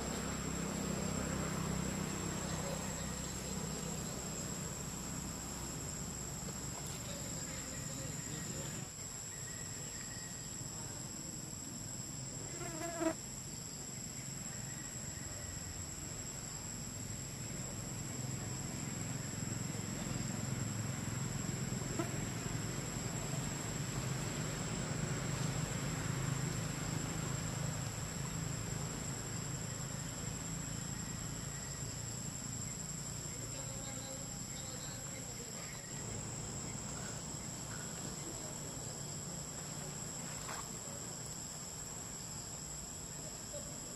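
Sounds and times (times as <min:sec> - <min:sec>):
insect chirp: 0:00.0 - 0:43.9
insect chorus droning: 0:00.0 - 0:43.9.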